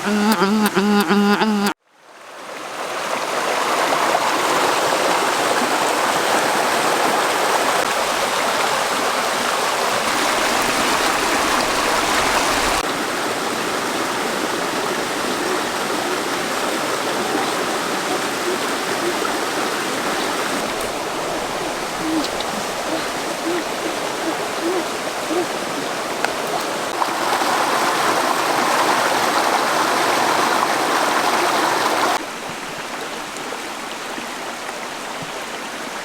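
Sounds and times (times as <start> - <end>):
water rushing: 0.0 - 36.0.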